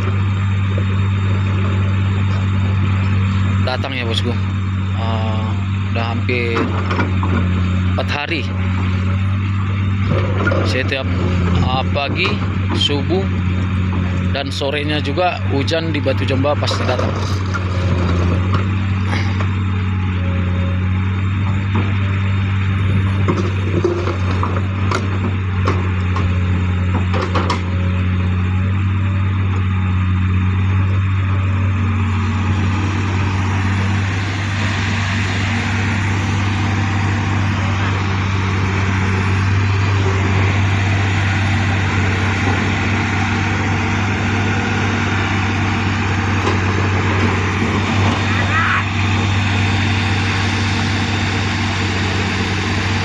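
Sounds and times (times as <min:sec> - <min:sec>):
heavy engine humming: 0:00.0 - 0:53.0.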